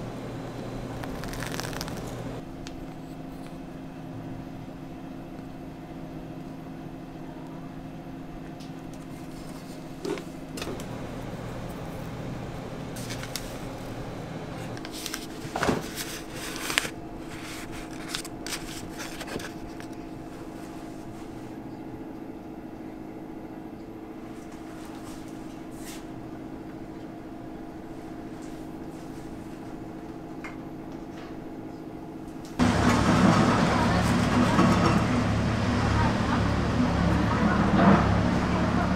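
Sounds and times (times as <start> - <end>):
kitchen machinery humming: 0.0 - 5.2, 8.1 - 30.4, 31.7 - 38.9.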